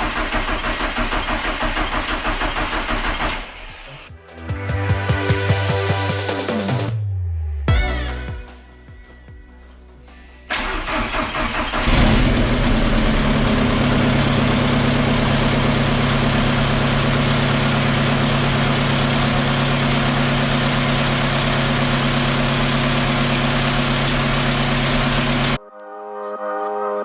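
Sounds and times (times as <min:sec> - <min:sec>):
diesel engine cranking and idling: 0:00.0 - 0:06.2, 0:09.8 - 0:25.6.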